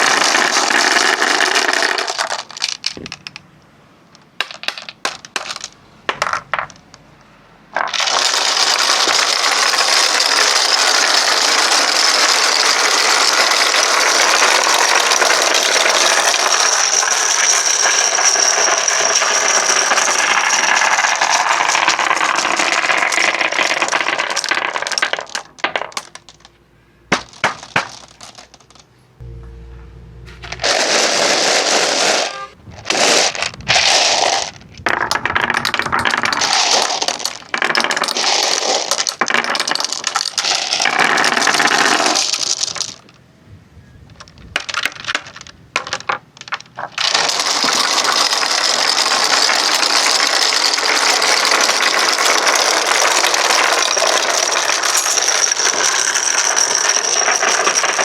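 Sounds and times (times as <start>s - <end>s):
marbles clicking and clacking: 0.0s - 3.5s, 4.1s - 7.0s, 7.8s - 28.9s, 30.4s - 43.2s, 44.1s - 58.0s
marbles rolling on wooden tracks: 0.0s - 3.5s, 4.1s - 7.0s, 7.7s - 28.9s, 30.4s - 43.2s, 44.0s - 58.0s.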